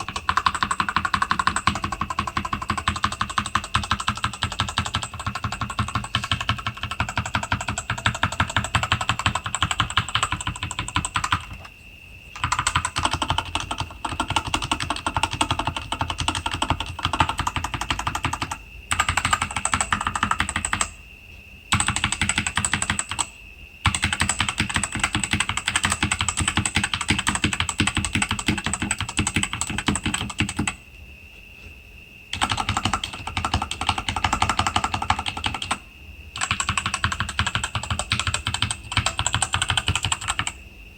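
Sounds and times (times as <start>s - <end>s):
keyboard typing: 0.0s - 11.7s, 12.3s - 21.0s, 21.7s - 30.8s, 32.3s - 35.8s, 36.4s - 40.6s.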